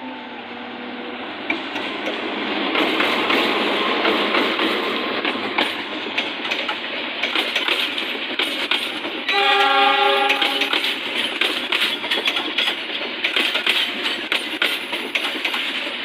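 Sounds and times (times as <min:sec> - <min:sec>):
train wheels rushing on rails: 0:00.0 - 0:16.0
wheels clicking over rail joints: 0:01.5 - 0:16.0.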